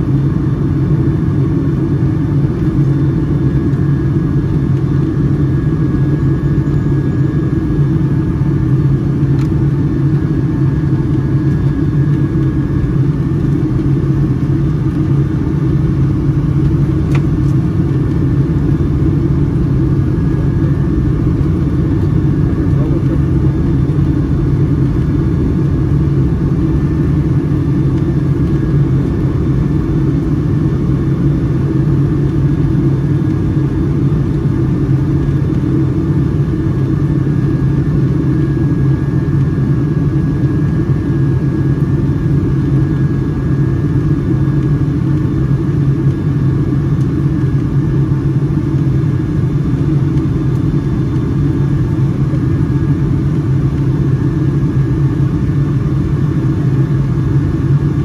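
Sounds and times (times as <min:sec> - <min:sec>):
airliner cabin engine rumble: 0:00.0 - 0:58.0
faint whine: 0:00.0 - 0:58.0.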